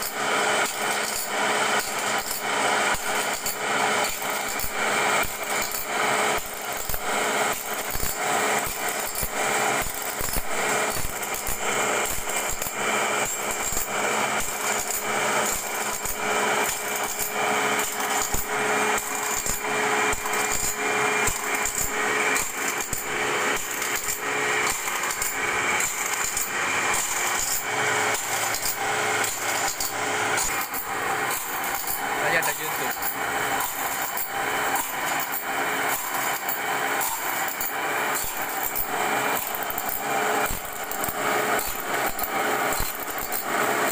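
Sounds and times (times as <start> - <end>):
grinding wheel on saw blade: 0.0 - 43.9.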